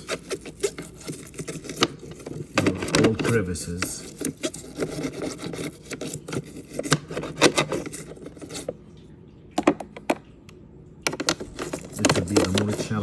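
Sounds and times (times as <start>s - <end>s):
toothbrush scrubbing: 0.0s - 8.8s, 11.1s - 13.0s.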